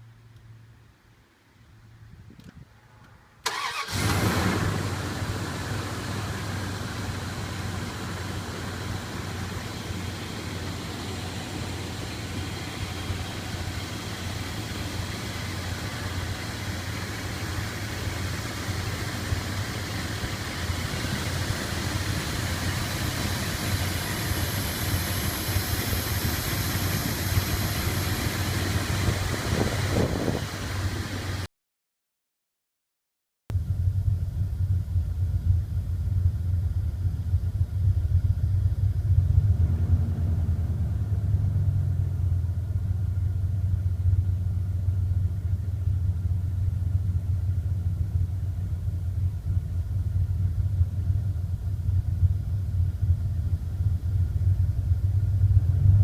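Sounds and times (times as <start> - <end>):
engine idling: 3.4 - 31.5, 33.5 - 56.0.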